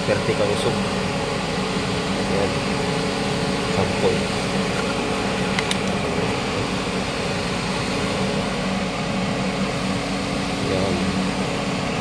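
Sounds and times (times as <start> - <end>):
electric fans humming: 0.0 - 12.0.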